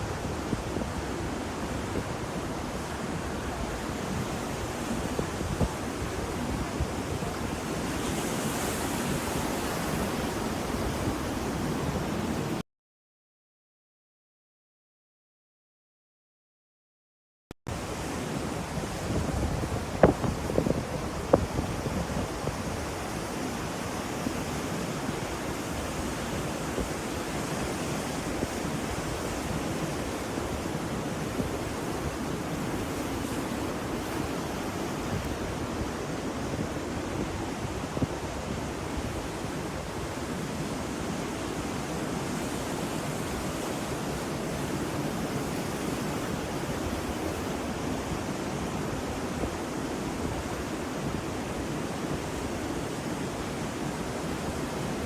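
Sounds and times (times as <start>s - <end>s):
ocean surf washing: 0.0s - 12.6s, 17.7s - 55.0s.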